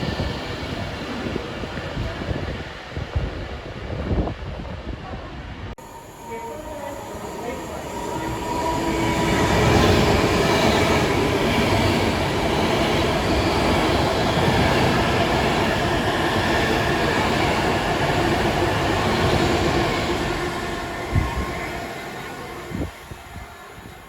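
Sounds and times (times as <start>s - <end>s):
train wheels rushing on rail: 0.0s - 24.0s.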